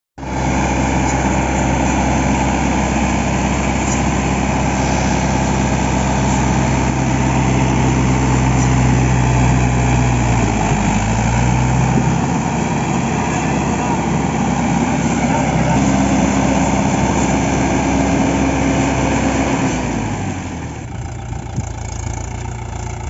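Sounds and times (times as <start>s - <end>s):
tractor diesel engine under load: 0.2s - 23.0s.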